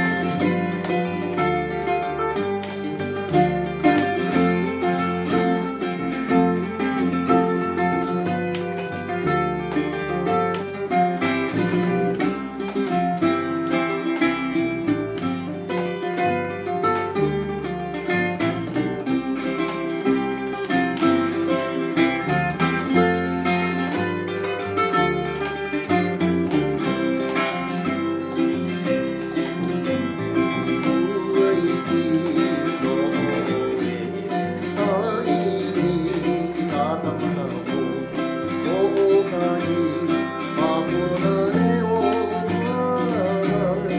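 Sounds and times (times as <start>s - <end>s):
steel-string ukulele strummed chords: 0.0s - 43.9s.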